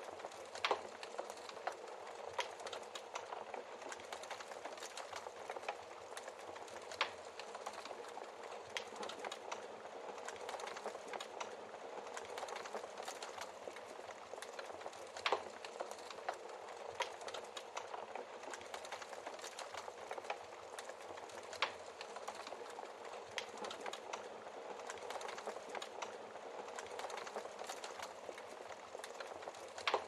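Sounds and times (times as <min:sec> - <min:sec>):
wood fire crackling: 0:00.0 - 0:30.0
fire pops: 0:00.2 - 0:30.0.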